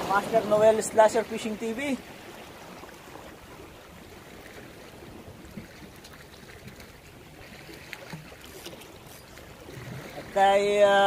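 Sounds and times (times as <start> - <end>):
seawater washing against rocks: 0.0 - 11.0.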